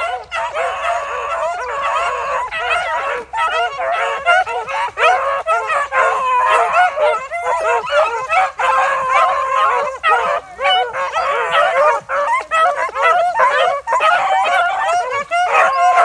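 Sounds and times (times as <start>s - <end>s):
pack of hounds baying: 0.0s - 16.0s.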